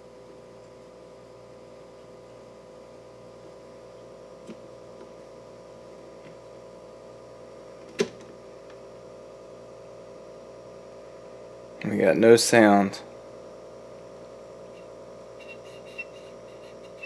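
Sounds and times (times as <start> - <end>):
amplifier mains hum and buzz: 0.0 - 17.0.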